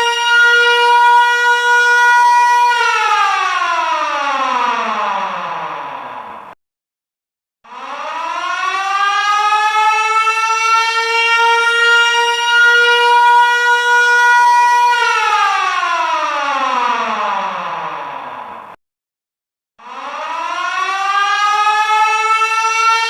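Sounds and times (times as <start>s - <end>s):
air-raid siren wailing: 0.0s - 6.6s, 7.7s - 18.7s, 19.8s - 23.0s.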